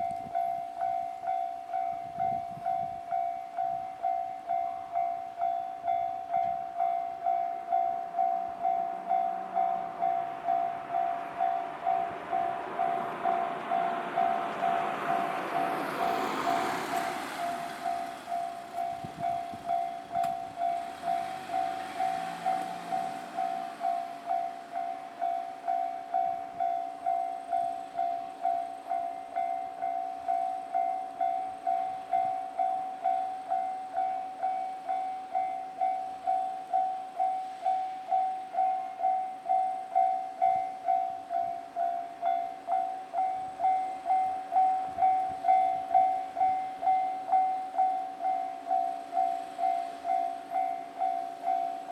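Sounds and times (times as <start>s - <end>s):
level-crossing warning bell: 0.0s - 51.9s.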